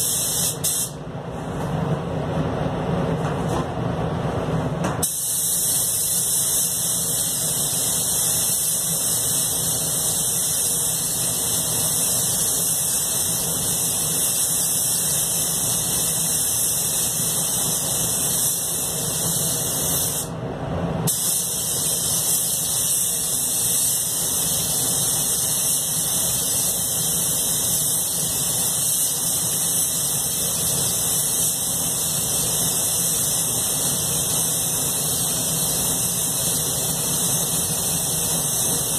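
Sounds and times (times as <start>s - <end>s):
spray gun hissing: 0.0s - 1.0s, 5.0s - 20.3s, 21.1s - 38.9s.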